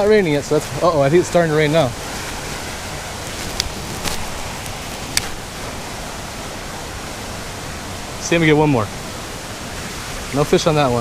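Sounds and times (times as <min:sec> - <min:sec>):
steady rushing outdoor noise: 0:00.0 - 0:11.0.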